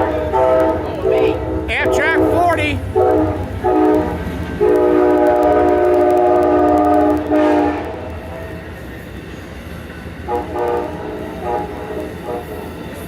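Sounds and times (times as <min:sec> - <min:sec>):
train horn blasts: 0:00.0 - 0:08.6, 0:10.3 - 0:12.8
rumble of passing train: 0:00.0 - 0:13.0.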